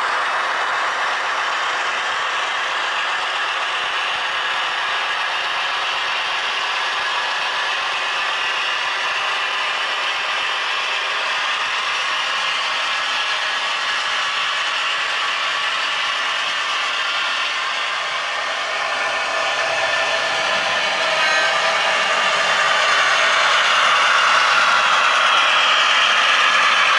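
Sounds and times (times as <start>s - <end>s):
model train wheels clattering: 0.0s - 26.9s.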